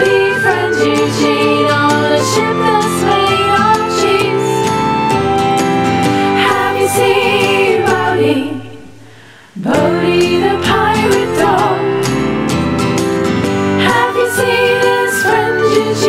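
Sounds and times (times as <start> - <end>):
children's sing-along song: 0.0 - 9.0, 9.6 - 12.4, 13.8 - 16.0.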